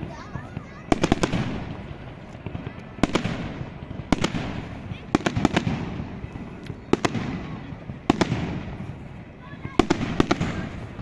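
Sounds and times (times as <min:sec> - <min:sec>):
fireworks exploding: 0:00.0 - 0:11.0
rolling echo: 0:00.0 - 0:11.0.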